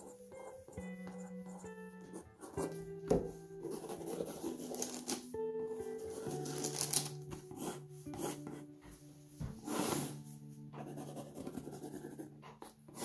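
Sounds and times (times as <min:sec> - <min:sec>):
pencil scratching on canvas: 0:00.0 - 0:05.2, 0:06.0 - 0:08.6, 0:09.6 - 0:13.0
soft background music: 0:00.0 - 0:13.0.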